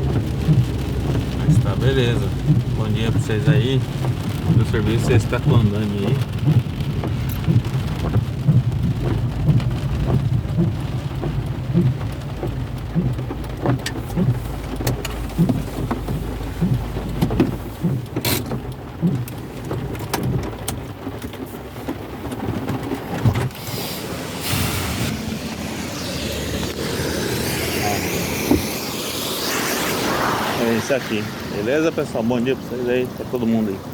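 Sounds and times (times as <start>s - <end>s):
car driving rumble: 0.0s - 33.9s
rain pattering on a car: 0.0s - 33.9s.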